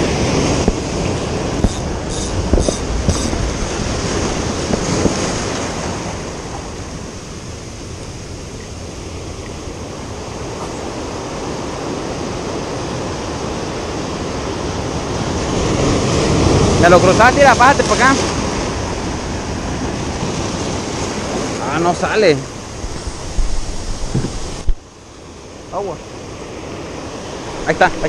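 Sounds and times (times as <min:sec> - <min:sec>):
surf breaking over rocks: 0:00.0 - 0:28.0.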